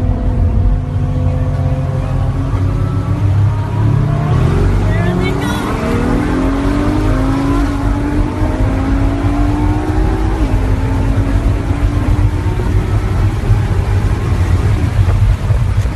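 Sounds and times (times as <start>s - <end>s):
heavy low rumble: 0.0s - 15.9s
vehicle engine accelerating: 0.0s - 15.9s.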